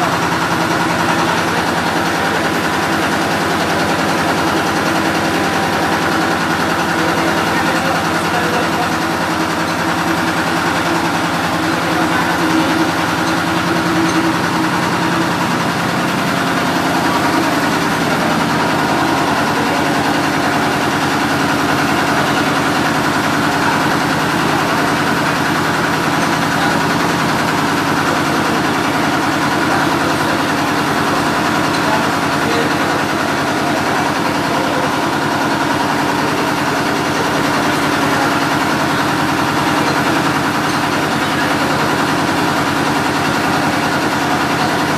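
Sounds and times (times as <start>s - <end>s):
large engine idling: 0.0s - 44.9s.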